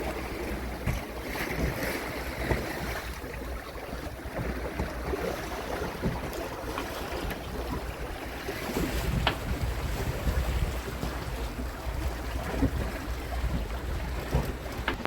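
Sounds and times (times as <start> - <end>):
small sea waves washing: 0.0 - 15.0
wind buffeting microphone: 0.0 - 15.0.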